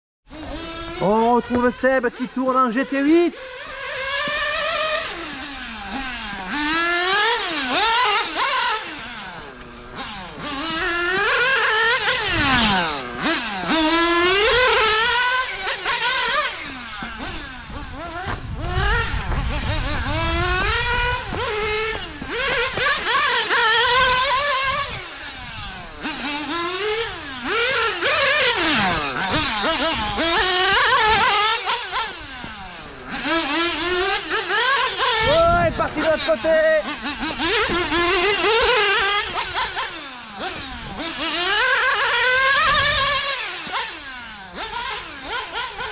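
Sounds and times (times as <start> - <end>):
model car engines revving: 0.3 - 45.9.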